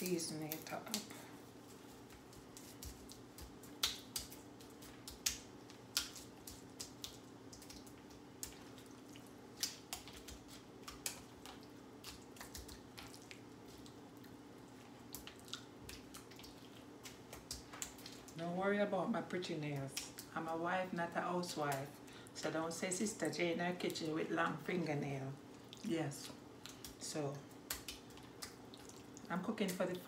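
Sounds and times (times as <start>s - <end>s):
soft wet handling sounds: 0.0s - 18.4s, 23.7s - 30.0s
steady low hum: 0.0s - 30.0s.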